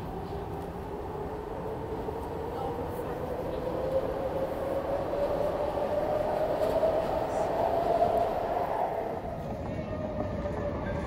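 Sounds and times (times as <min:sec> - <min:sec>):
low rail rumble: 0:00.0 - 0:11.0.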